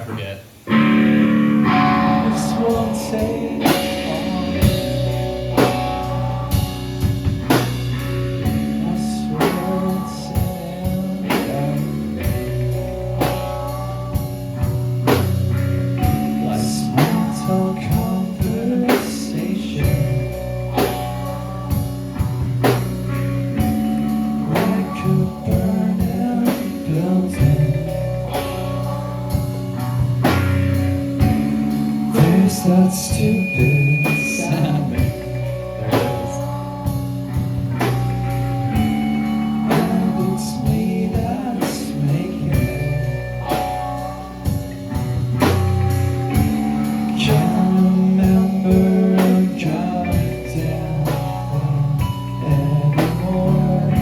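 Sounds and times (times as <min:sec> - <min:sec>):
bass: 0:00.0 - 0:54.0
drum kit beat: 0:00.0 - 0:54.0
electric guitar chords: 0:00.0 - 0:54.0.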